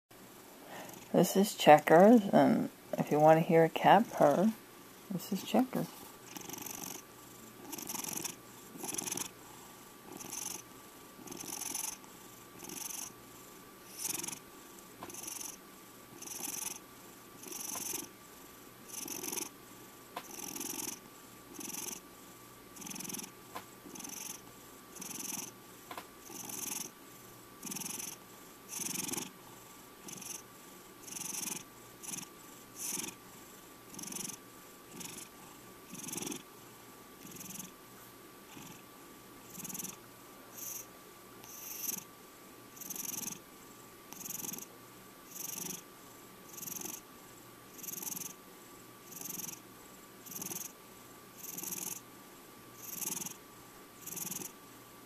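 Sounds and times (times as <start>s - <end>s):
cat purring: 0.7s - 37.8s, 38.4s - 38.9s, 39.5s - 42.1s, 42.8s - 44.7s, 45.3s - 47.1s, 47.7s - 48.4s, 49.0s - 49.6s, 50.2s - 50.8s, 51.4s - 52.0s, 52.8s - 53.4s, 54.0s - 54.6s.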